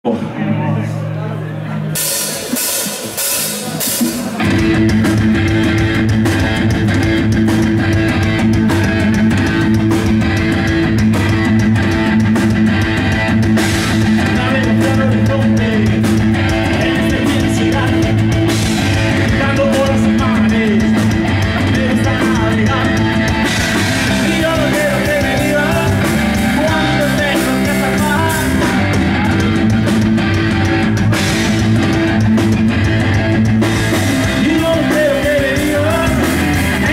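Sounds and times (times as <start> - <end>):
electric bass: 0.0 - 36.9
electric guitar: 0.1 - 36.9
drum kit: 1.8 - 36.9.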